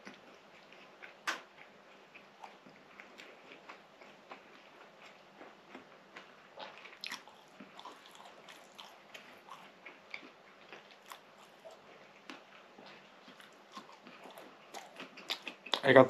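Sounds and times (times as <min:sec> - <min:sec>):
person chewing pastry: 0:00.0 - 0:15.9.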